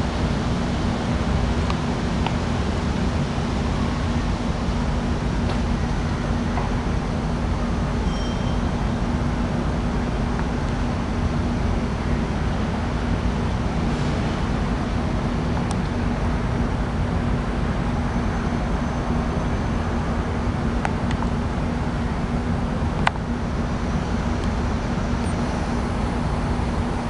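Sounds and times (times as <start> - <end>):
air conditioner hum: 0.0 - 27.0
air conditioner rushing: 0.0 - 27.0.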